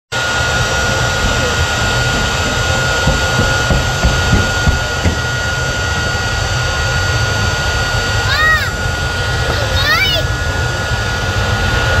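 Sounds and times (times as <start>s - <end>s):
jet turbine engine running: 0.1s - 12.0s.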